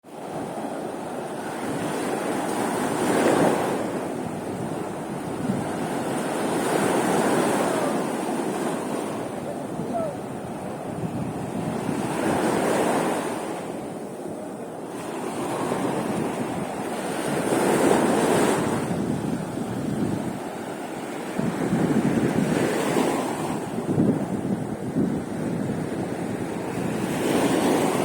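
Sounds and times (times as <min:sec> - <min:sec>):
waves washing onto shore: 0:00.0 - 0:28.0
wind buffeting microphone: 0:00.1 - 0:28.0.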